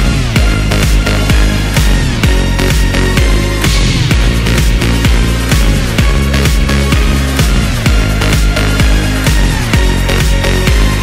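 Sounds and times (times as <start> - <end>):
deep kick drum beat: 0.0 - 11.0
electronic dance music: 0.0 - 11.0.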